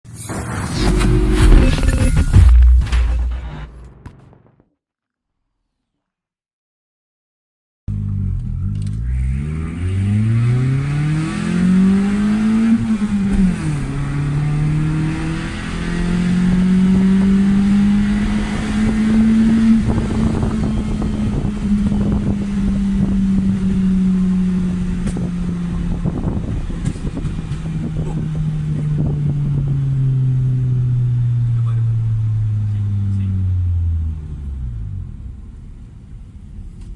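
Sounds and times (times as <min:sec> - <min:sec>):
car engine revving: 0:00.2 - 0:04.4, 0:07.9 - 0:36.2.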